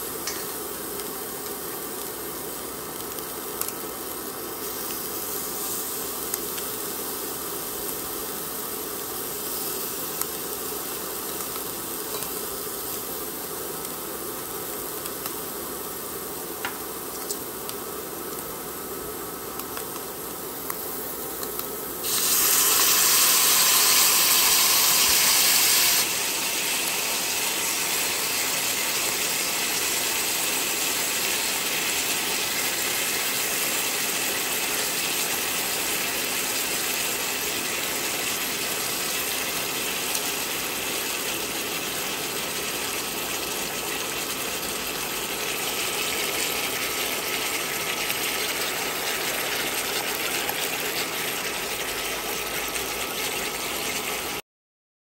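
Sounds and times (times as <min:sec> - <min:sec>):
sauce sizzling in a hot pan: 0:00.0 - 0:54.4.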